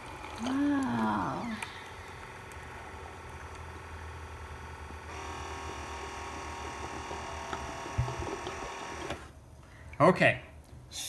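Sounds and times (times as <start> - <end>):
soda machine humming with a whine: 0.0 - 9.4.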